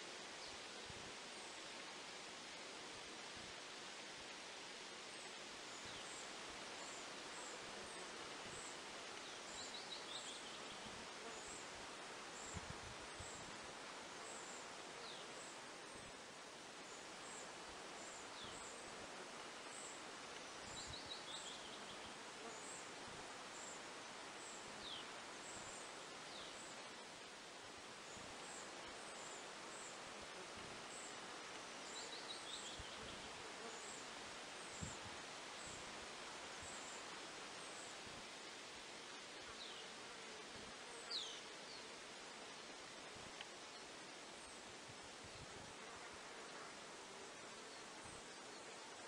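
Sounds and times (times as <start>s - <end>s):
steady rustling hiss: 0.0s - 49.0s.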